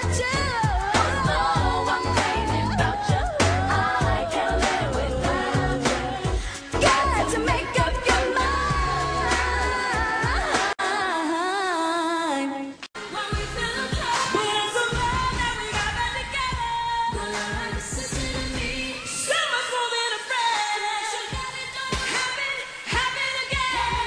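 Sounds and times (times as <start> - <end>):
pop song with female vocal: 0.0 - 24.0
woman singing with vibrato: 0.0 - 24.0.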